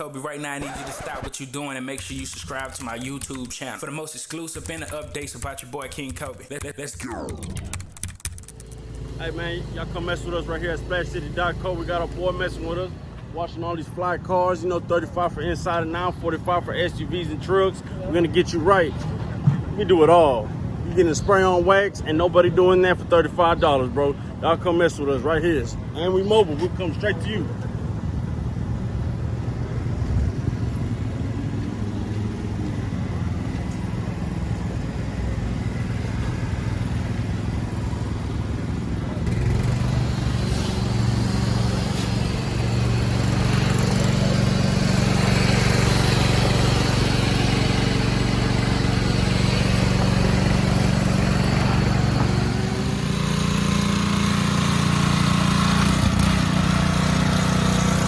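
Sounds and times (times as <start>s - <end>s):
engine running: 7.0s - 58.0s.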